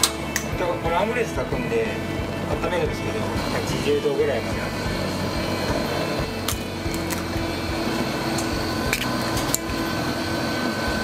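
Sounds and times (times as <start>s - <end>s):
kitchen hum: 0.0s - 11.0s.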